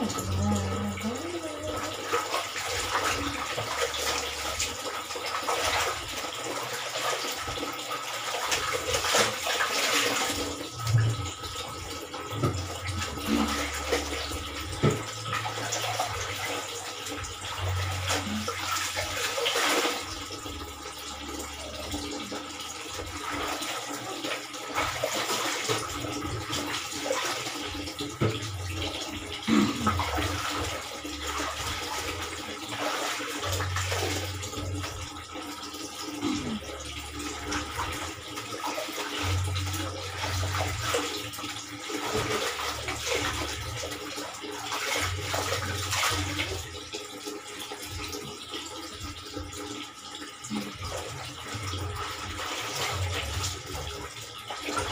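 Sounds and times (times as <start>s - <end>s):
water sloshing in a basin: 0.0s - 54.9s.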